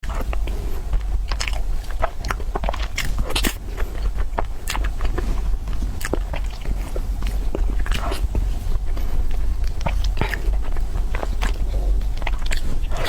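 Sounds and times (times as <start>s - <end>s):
person chewing crunchy food: 0.0s - 13.0s
steady low hum: 0.0s - 13.0s.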